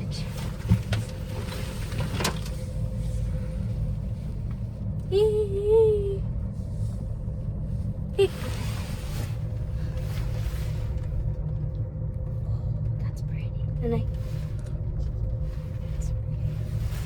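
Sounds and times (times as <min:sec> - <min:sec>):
gondola cabin rumbling on cable: 0:00.0 - 0:17.0.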